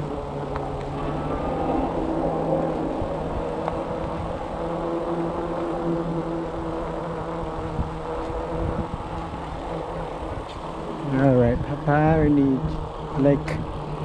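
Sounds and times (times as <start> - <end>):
electric bike motor whining: 0.0 - 14.0
wind rumble on microphone: 0.0 - 14.0.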